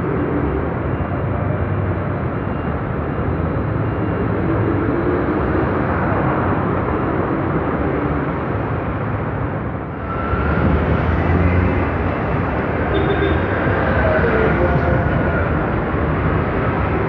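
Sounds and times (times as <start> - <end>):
road traffic rumble: 0.0 - 17.0
vehicle running noise: 0.0 - 17.0.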